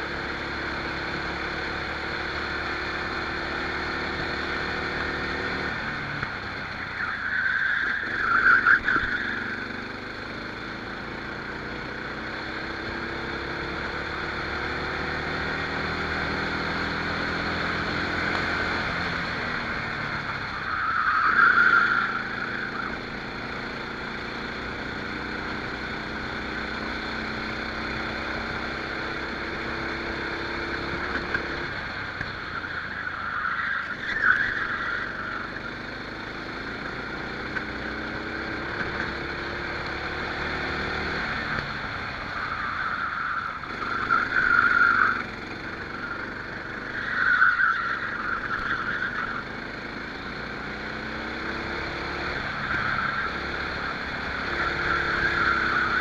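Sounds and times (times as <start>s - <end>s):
kart engine accelerating: 0.0s - 56.0s.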